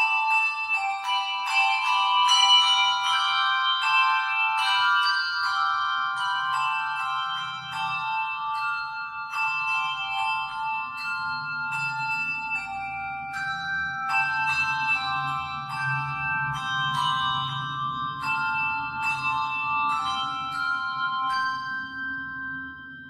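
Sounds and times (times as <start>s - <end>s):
handbell choir playing: 0.0s - 23.0s.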